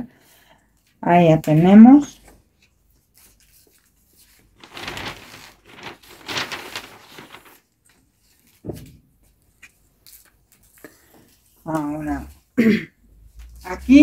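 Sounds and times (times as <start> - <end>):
paper rustling and handling: 0.8 - 12.5, 13.2 - 14.0.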